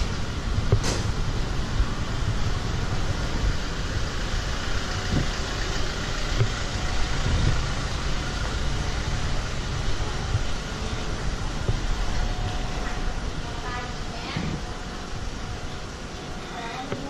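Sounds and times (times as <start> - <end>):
roadway hiss: 0.0 - 17.0
vehicle engine rumbling: 0.0 - 17.0.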